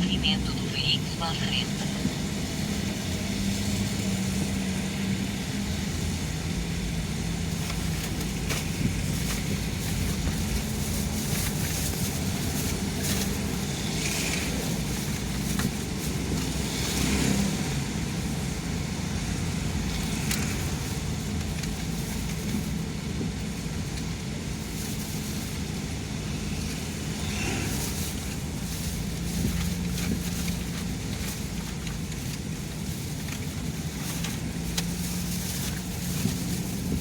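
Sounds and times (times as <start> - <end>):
car engine and road noise: 0.0 - 37.0
faint passing vehicles: 0.0 - 37.0.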